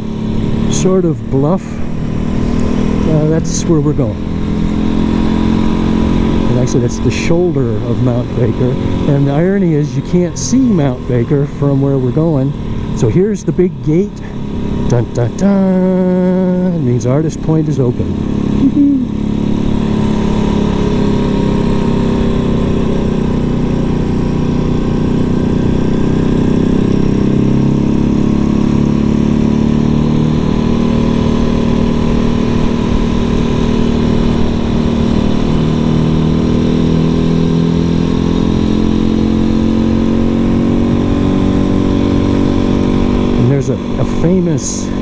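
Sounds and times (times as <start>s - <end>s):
single-cylinder engine running: 0.0s - 45.0s.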